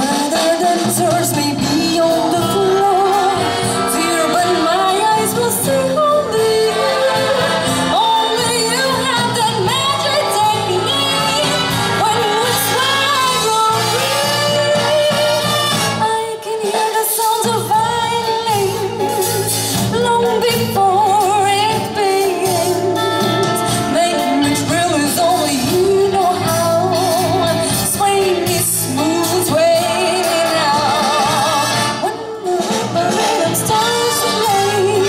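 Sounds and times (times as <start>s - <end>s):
light orchestra playing: 0.0s - 35.0s
woman singing with vibrato: 0.0s - 35.0s.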